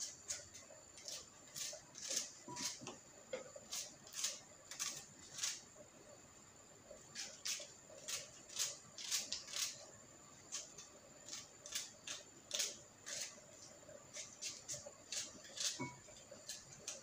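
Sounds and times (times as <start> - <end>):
knife cutting onion: 0.0 - 5.7, 7.1 - 9.8, 10.4 - 17.0.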